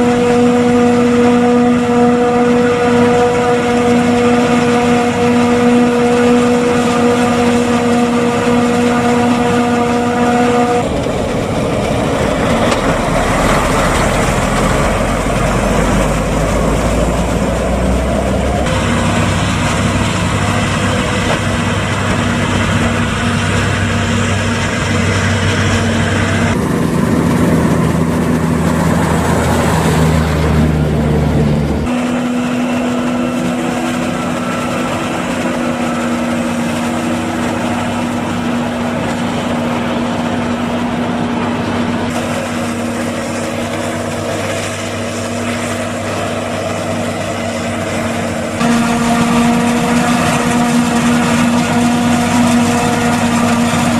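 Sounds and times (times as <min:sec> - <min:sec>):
heavy diesel engines running: 0:00.0 - 0:53.9.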